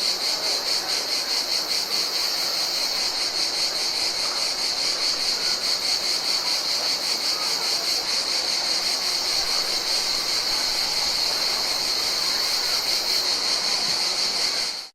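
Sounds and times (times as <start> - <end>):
faint hiss: 0.0 - 14.9
insects trilling: 0.0 - 14.9.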